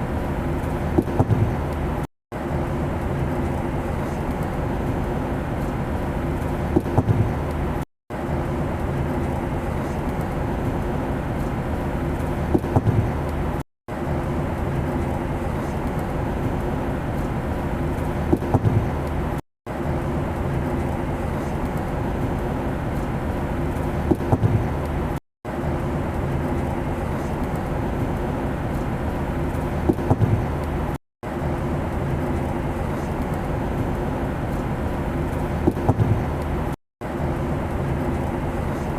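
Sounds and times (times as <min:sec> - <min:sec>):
airplane engine drone: 0:00.0 - 0:38.9.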